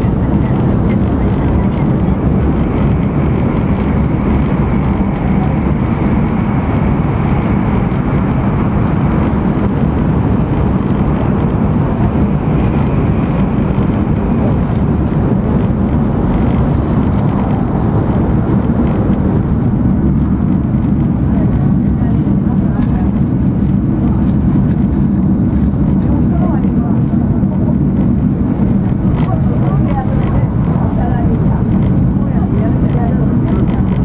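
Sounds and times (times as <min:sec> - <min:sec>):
train cabin low rumble: 0:00.0 - 0:34.0.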